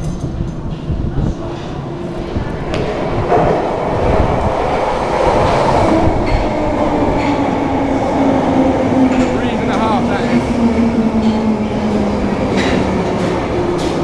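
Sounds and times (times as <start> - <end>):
train low whine: 0.0 - 14.0
underground train rumble: 0.0 - 14.0.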